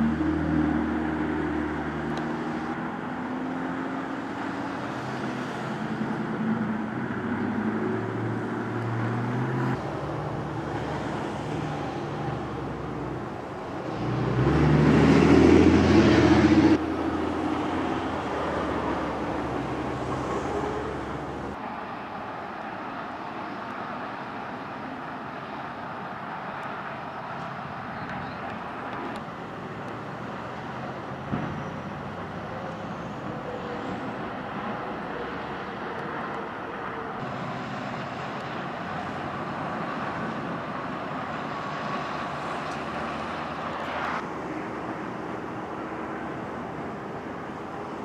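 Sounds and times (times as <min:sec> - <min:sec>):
louder vehicle passing: 0:00.0 - 0:24.8, 0:25.4 - 0:48.0
highway traffic rushing: 0:00.0 - 0:48.0.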